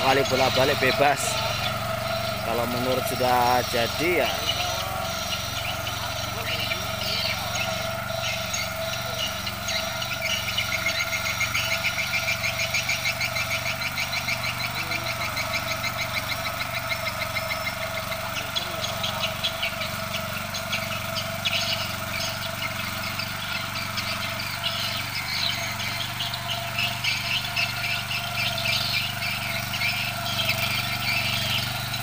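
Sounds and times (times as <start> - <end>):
fast even ticking: 0.0 - 32.0
tiller engine running: 0.0 - 32.0.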